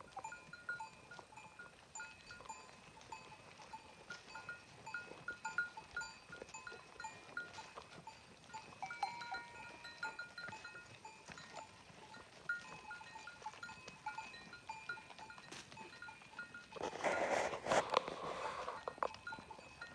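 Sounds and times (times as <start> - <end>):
livestock neck bells clinking: 0.0 - 19.9.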